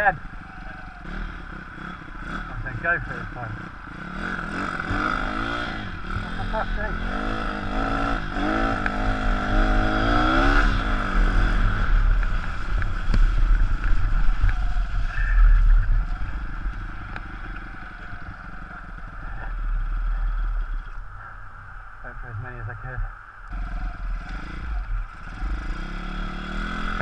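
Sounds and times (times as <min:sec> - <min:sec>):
motorbike engine revving: 0:00.0 - 0:20.9, 0:23.5 - 0:27.0.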